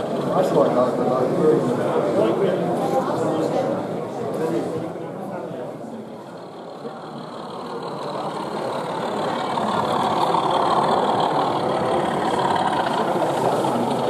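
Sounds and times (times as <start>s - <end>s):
model diesel locomotive engine: 0.0s - 14.0s.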